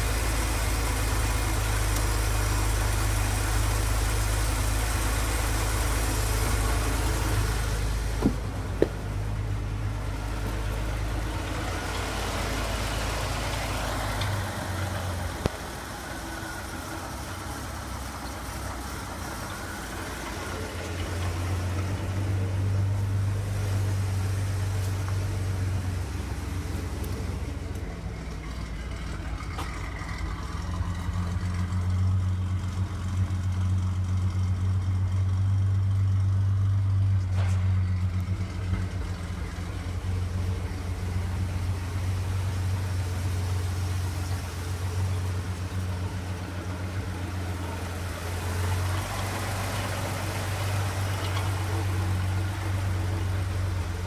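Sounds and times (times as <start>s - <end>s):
engine idling with low hum: 0.0s - 54.0s.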